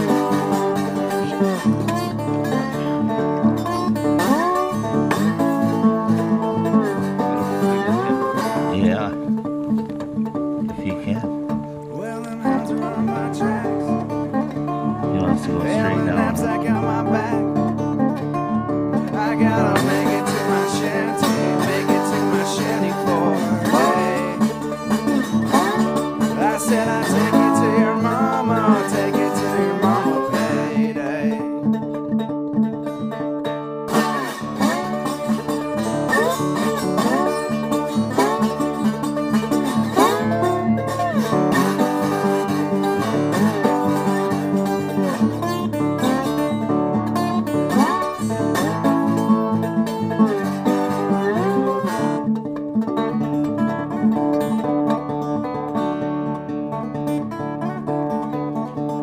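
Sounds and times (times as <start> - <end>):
country music with plucked guitar: 0.0 - 59.0.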